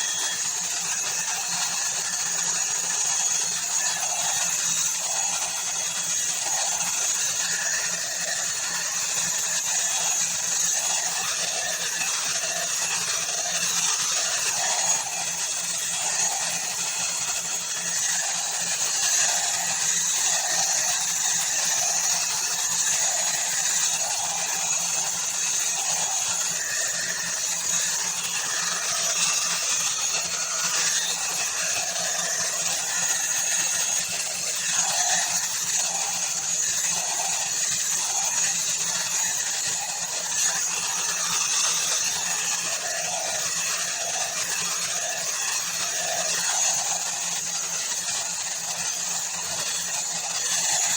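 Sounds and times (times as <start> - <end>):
hot air brush fan whir: 0.0 - 50.9.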